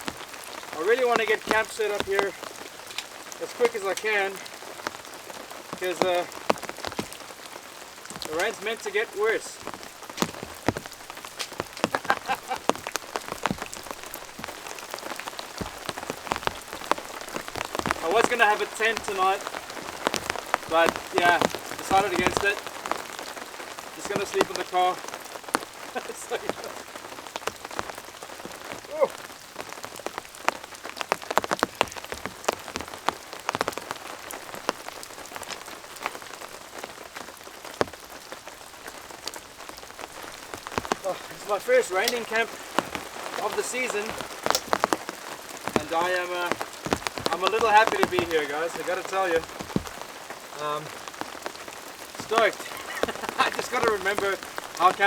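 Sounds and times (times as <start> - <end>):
rain falling: 0.0 - 55.0
raindrops ticking close by: 0.0 - 55.0.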